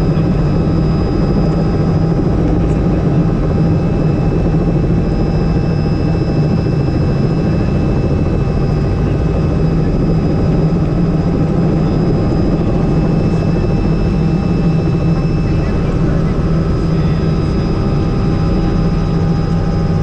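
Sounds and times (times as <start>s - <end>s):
helicopter rotor and engine: 0.0s - 20.0s
high engine whine: 0.0s - 20.0s.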